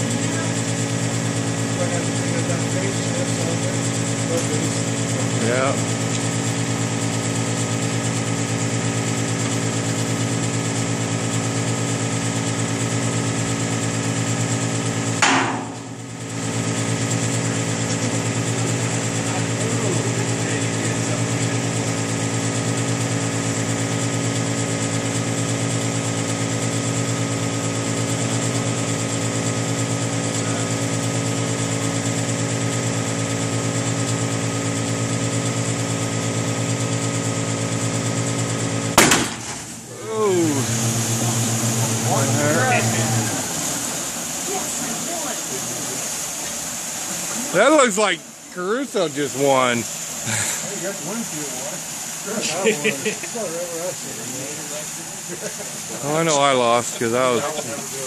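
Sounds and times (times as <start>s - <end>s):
engine running with knocking: 0.0s - 47.9s.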